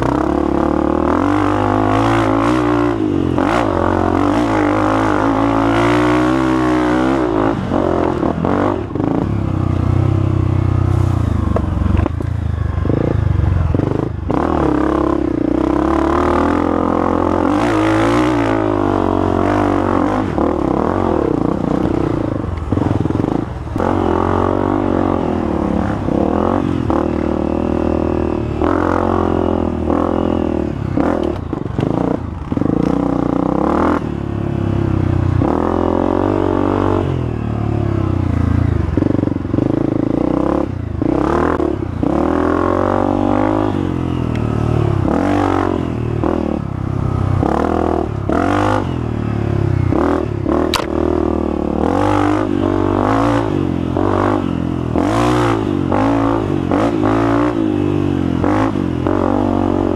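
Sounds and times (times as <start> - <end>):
dirt bike engine revving: 0.0 - 12.2, 12.8 - 59.9.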